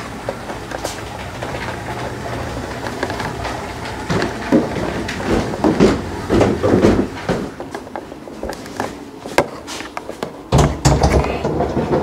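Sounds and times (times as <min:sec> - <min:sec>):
footsteps on wooden stairs: 0:00.0 - 0:12.0.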